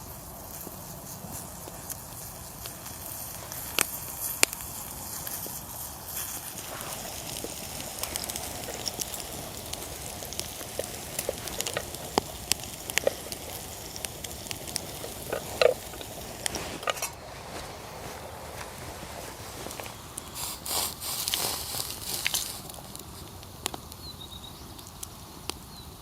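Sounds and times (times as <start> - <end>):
campfire crackling and popping: 0.0 - 26.0
food sizzling in a pan: 0.0 - 26.0.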